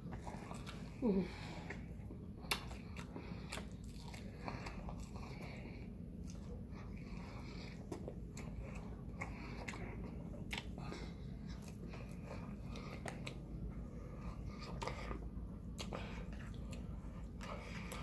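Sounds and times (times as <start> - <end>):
chewing and crunching: 0.0 - 18.0
low steady hum: 0.0 - 18.0.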